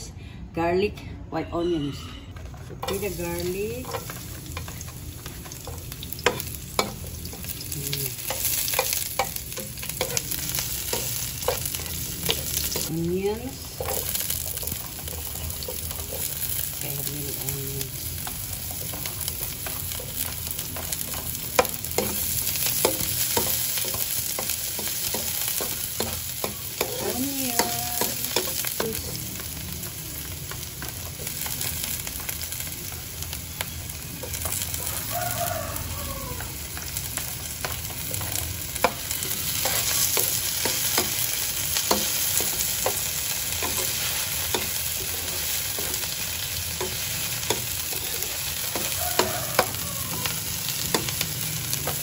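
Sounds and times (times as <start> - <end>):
onions sizzling in oil: 2.8 - 52.0.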